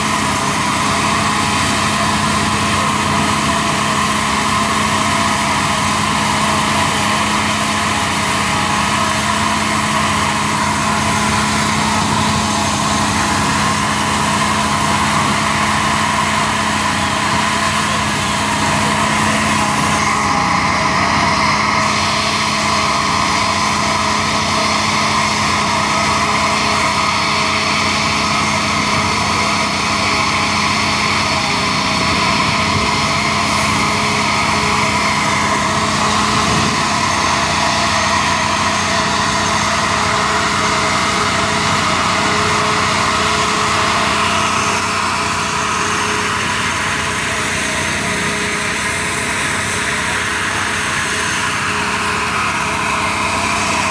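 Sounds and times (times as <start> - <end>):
fire engine pump humming: 0.0 - 53.9.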